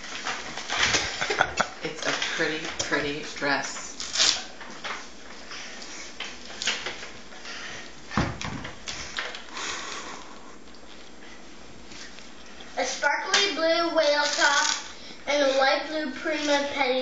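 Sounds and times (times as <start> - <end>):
rustling and handling noises: 0.0 - 9.5, 10.6 - 17.0.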